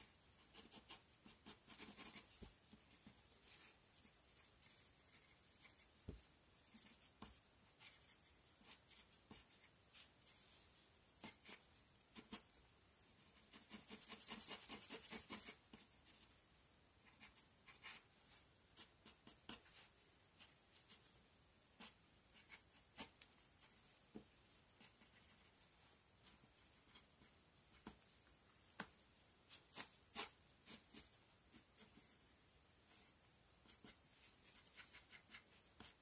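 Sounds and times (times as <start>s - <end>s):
pencil scratching on paper: 0.0s - 10.6s, 11.2s - 12.5s, 13.2s - 16.3s, 17.0s - 21.1s, 21.8s - 28.0s, 28.8s - 32.2s, 33.6s - 36.0s.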